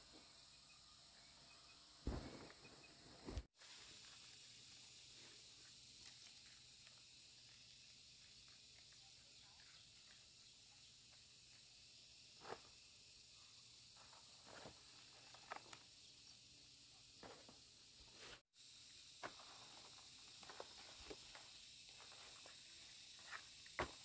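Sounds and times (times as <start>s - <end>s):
high insect hiss: 0.0s - 24.0s.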